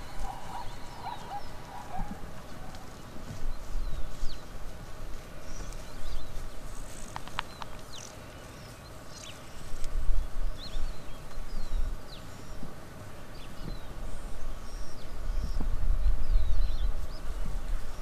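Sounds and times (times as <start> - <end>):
hooves thudding on dry ground: 0.0 - 14.1, 15.4 - 18.0
small birds chirping: 0.0 - 18.0.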